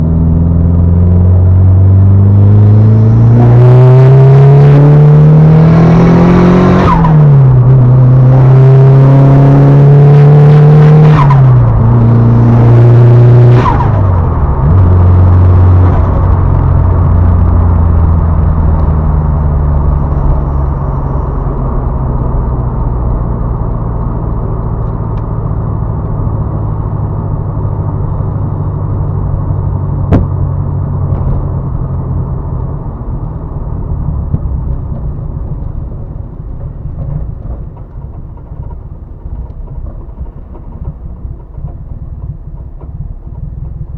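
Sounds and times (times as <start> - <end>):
turbo car engine revving: 0.0 - 43.9.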